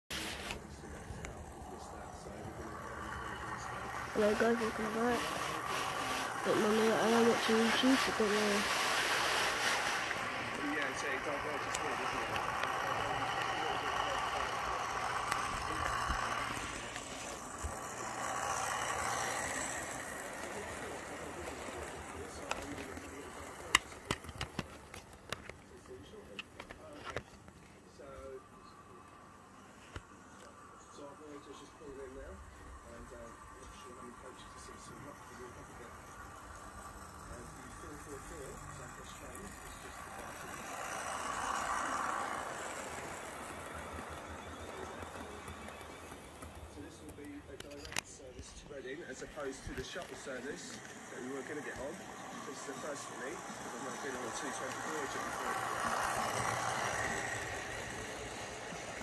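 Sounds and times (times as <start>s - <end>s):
model train running on track: 0.1s - 59.0s.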